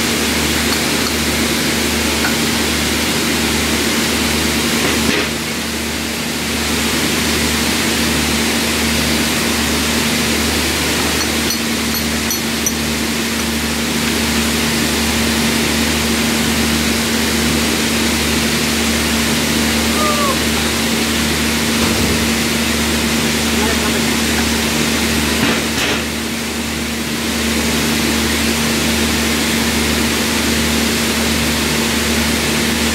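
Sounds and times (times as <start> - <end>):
factory machinery humming: 0.0 - 32.9.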